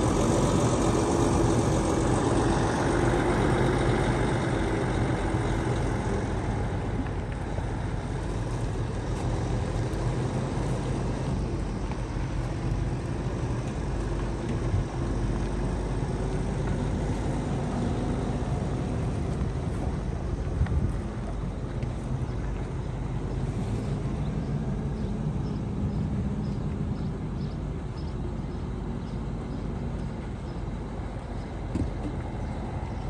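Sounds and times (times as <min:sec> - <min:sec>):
truck diesel engine idling: 0:00.0 - 0:33.0.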